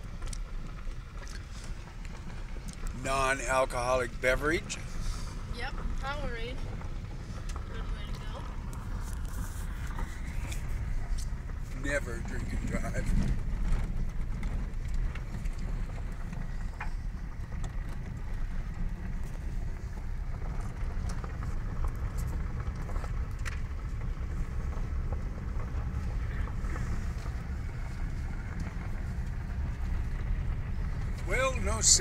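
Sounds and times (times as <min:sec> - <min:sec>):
engine and tyres rumbling: 0:00.0 - 0:32.0.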